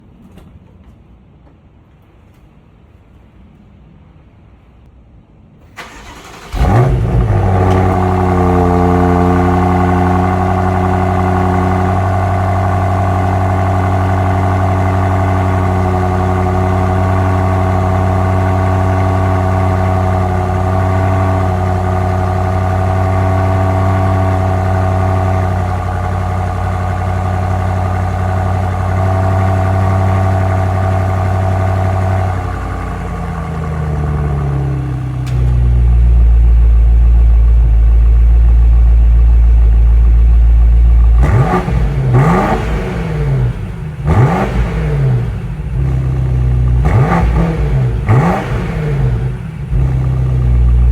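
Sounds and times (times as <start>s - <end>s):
car engine fast idle: 5.8s - 50.9s.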